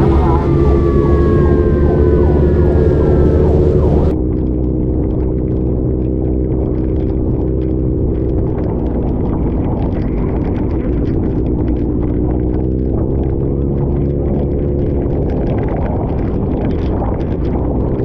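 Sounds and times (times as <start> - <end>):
motorcycle engine running: 0.0 - 18.0
rain ticking on camera: 0.0 - 18.0.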